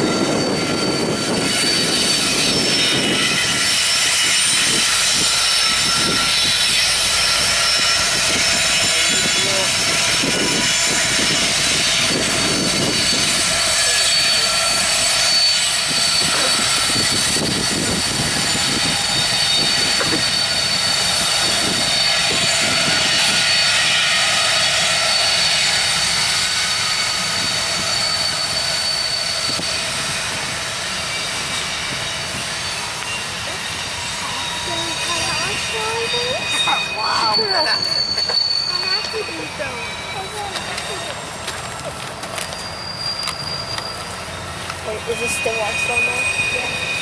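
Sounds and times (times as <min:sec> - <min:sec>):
freight train cars rolling: 0:00.0 - 0:47.0
high-pitched wheel squeal: 0:00.0 - 0:47.0.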